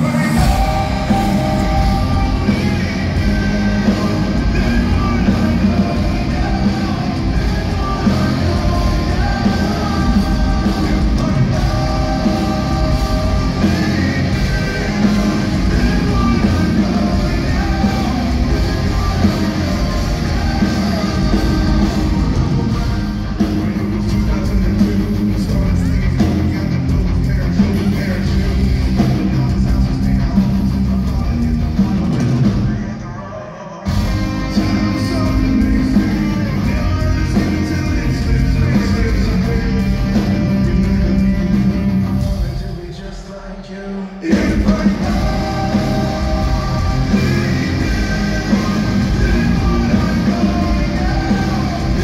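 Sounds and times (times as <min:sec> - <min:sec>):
hard rock band playing live: 0:00.0 - 0:52.0
person singing lead vocals: 0:00.0 - 0:52.0.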